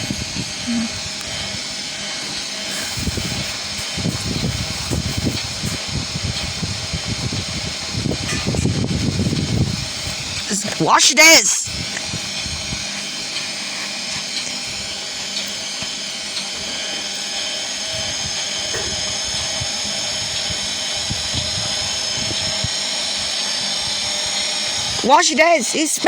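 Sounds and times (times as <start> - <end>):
washing machine spinning whine: 0.0 - 26.0.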